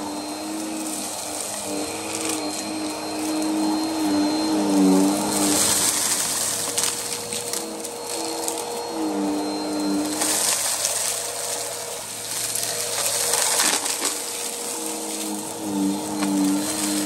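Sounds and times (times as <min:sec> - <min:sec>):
debris crackling up nozzle: 0:00.0 - 0:17.0
vacuum cleaner running: 0:00.0 - 0:17.0.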